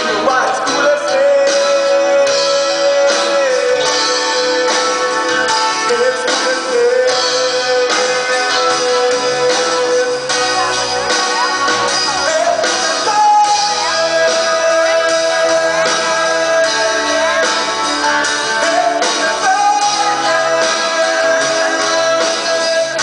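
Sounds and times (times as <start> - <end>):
guitar accompaniment: 0.0 - 23.0
sliding held lead melody: 0.0 - 23.0.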